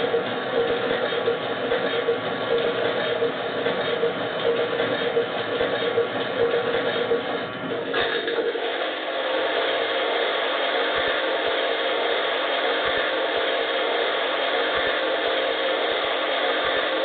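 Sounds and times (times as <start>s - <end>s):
toy washing machine motor whirring: 0.0s - 17.0s.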